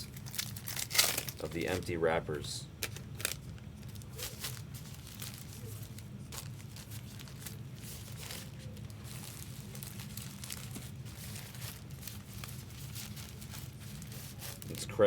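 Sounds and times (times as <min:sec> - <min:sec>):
foil wrappers crinkling: 0:00.0 - 0:15.0
steady low hum: 0:00.0 - 0:15.0.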